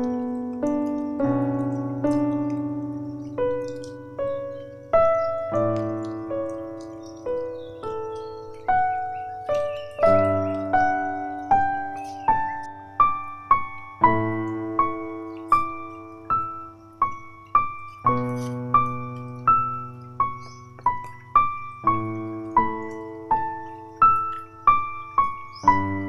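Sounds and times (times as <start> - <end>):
slow solo piano melody: 0.0 - 26.0.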